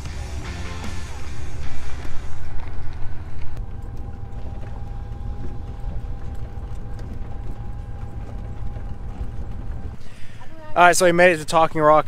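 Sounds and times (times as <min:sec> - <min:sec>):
truck rolling on gravel: 0:00.0 - 0:12.0.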